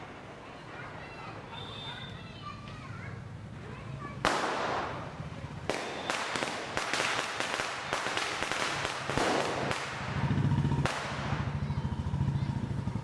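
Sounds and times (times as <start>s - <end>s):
crackling hiss: 0.0s - 11.7s
firecrackers banging: 0.0s - 13.0s.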